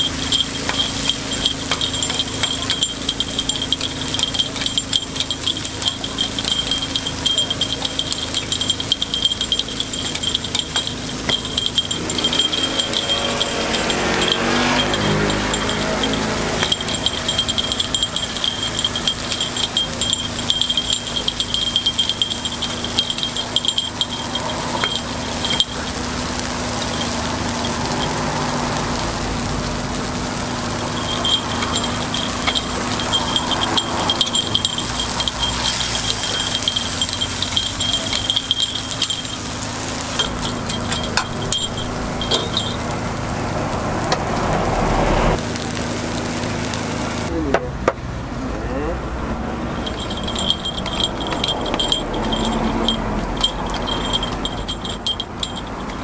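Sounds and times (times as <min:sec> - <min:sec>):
metal picks clicking on pan: 0:00.0 - 0:43.0, 0:49.7 - 0:56.0
batter sizzling: 0:00.0 - 0:47.4, 0:49.2 - 0:56.0.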